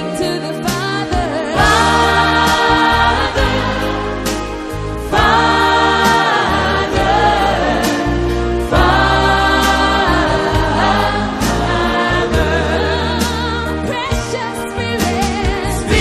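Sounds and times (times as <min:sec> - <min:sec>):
choir singing held notes: 0:01.5 - 0:16.0
low bass notes: 0:01.6 - 0:16.0.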